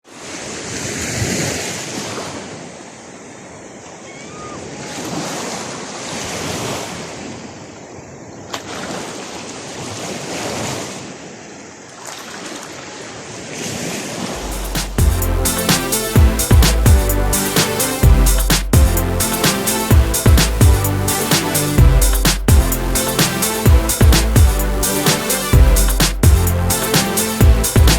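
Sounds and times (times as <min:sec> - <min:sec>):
waves breaking: 0:00.1 - 0:27.9.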